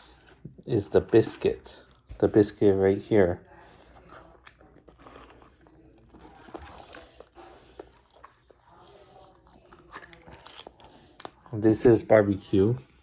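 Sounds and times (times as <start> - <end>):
chewing and crunching food: 0.0 - 12.2.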